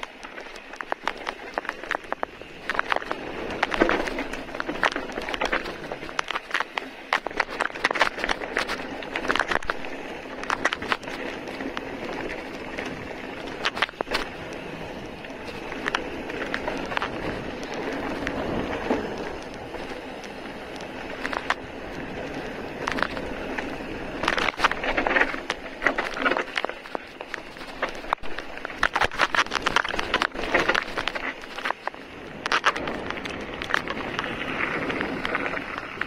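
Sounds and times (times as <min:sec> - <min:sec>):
bike rattling clatters: 0:00.0 - 0:36.0
bike tyres on gravel: 0:00.0 - 0:36.0.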